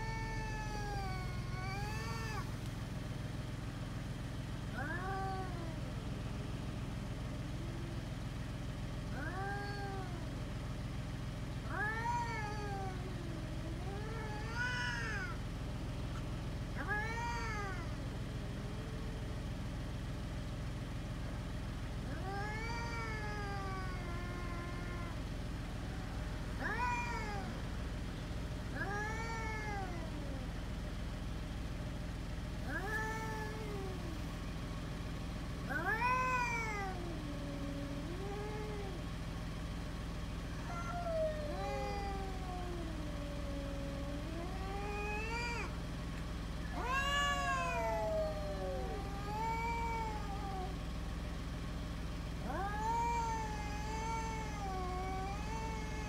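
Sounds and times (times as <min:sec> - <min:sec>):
cats yowling: 0:00.0 - 0:03.1, 0:04.4 - 0:31.0, 0:31.7 - 0:56.0.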